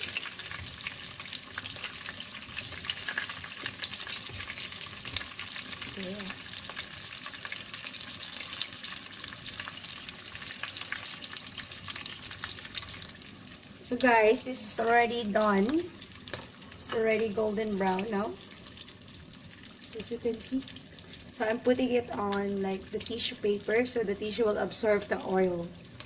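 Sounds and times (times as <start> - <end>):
food frying in hot oil: 0.0 - 26.0.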